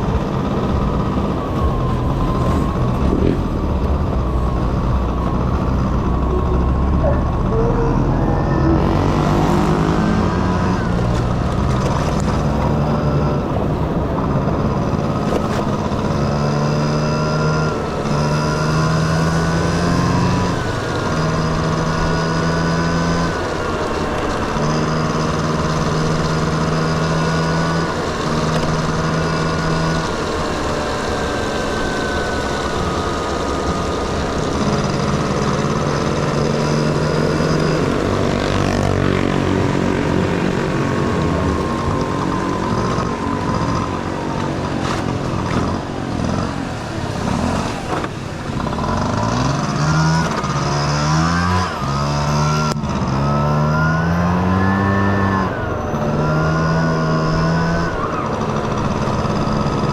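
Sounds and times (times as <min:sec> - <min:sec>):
steady humming tones: 0:00.0 - 0:53.0
scooter engine running: 0:00.0 - 0:59.9
wind and road noise: 0:00.0 - 0:59.9.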